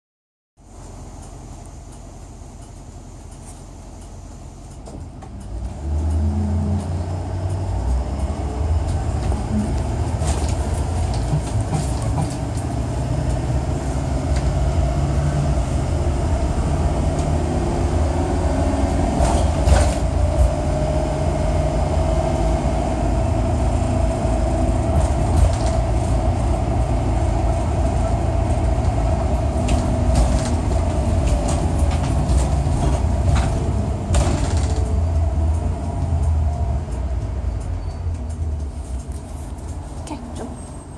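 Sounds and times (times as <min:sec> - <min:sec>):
bus engine and road rumble: 0:00.6 - 0:40.9.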